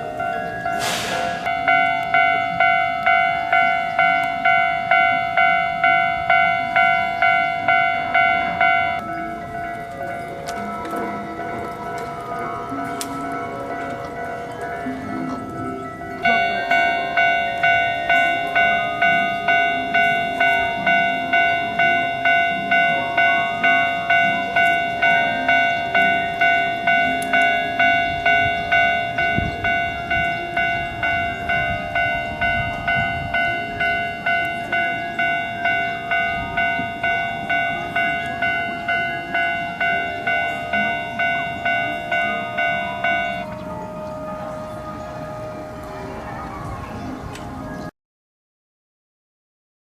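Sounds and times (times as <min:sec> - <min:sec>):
level crossing warning bell ringing: 0:00.0 - 0:47.9.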